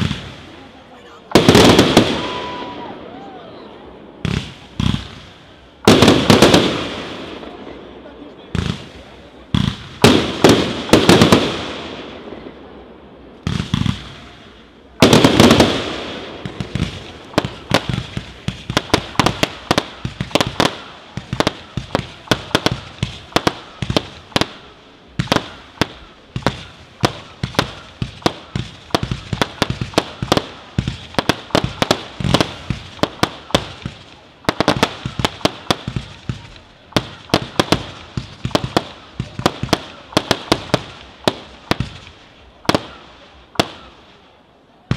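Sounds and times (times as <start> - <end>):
rapid firework cracks: 0.0 - 0.7, 1.3 - 2.7, 4.2 - 7.6, 8.5 - 12.1, 13.4 - 44.2.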